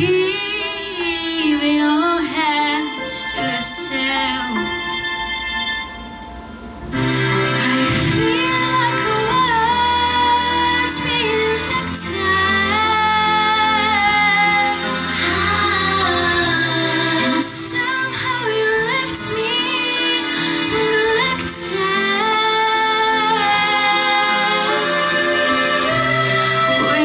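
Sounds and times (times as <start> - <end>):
woman singing a pop ballad: 0.0 - 5.0, 7.5 - 27.0
song accompaniment: 0.0 - 27.0.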